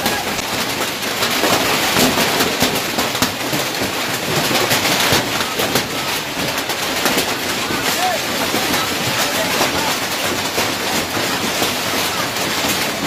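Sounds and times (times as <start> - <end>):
hailstones clattering: 0.0 - 13.0
rain hissing: 0.0 - 13.0.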